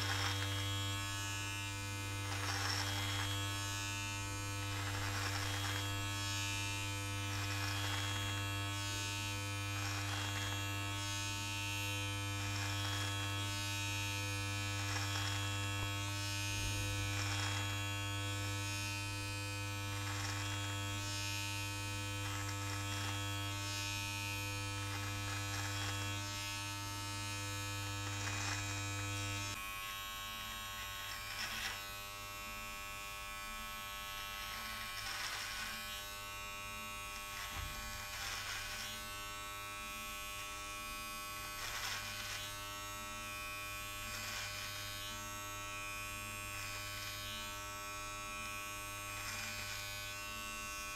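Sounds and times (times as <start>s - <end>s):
electric hair trimmer buzzing: 0.0s - 50.9s
rasp of hair being cut: 0.0s - 50.9s.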